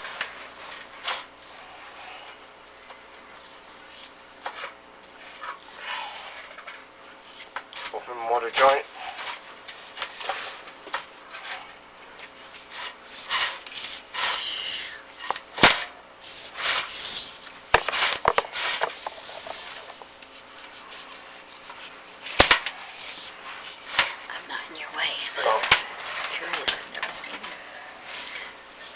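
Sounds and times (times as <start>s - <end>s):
cable scraping inside a masonry flue: 0.0s - 24.5s, 25.2s - 28.9s.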